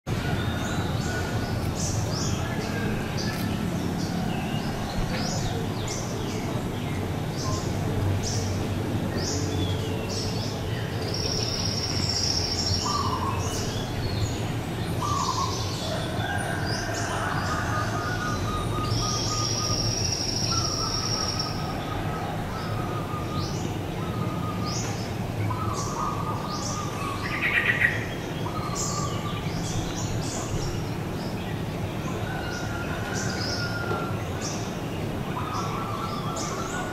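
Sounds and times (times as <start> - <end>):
birds chirping: 0.1 - 36.9.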